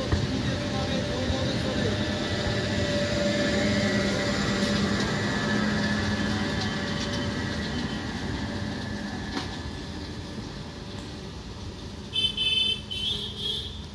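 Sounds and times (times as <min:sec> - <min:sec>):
train wheels rolling on rails: 0:00.0 - 0:12.2.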